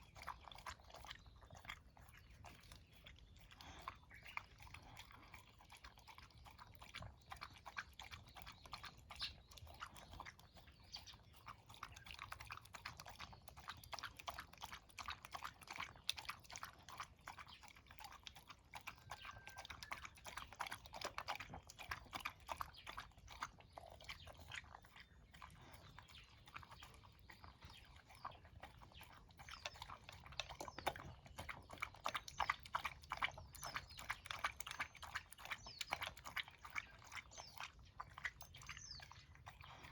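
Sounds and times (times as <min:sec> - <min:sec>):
pet crunching and chewing food: 0:00.0 - 0:39.9.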